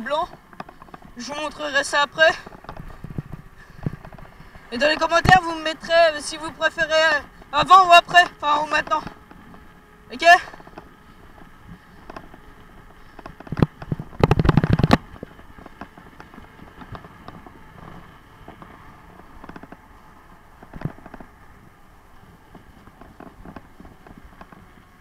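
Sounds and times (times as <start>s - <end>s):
bicycle rattling over bump: 0.0s - 25.0s
bicycle ticking as it rolls: 0.0s - 25.0s.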